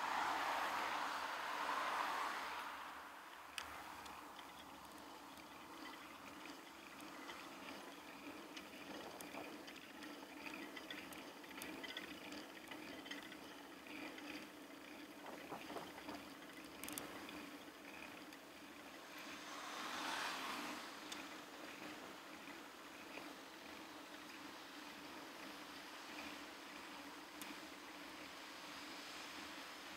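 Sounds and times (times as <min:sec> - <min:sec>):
wind and road noise: 0:00.0 - 0:29.9
bicycle ticks and rattles: 0:02.9 - 0:29.9.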